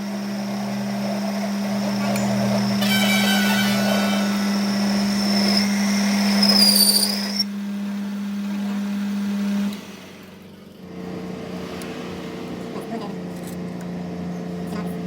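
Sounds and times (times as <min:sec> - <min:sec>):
high-pitched whine from work: 0:00.0 - 0:15.0
workshop machine motor humming: 0:00.0 - 0:15.0.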